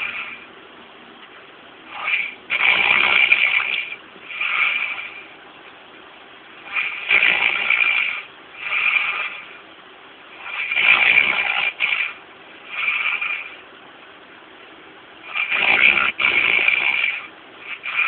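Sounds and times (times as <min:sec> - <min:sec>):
noisy rhythmic breathing: 0:00.0 - 0:18.0.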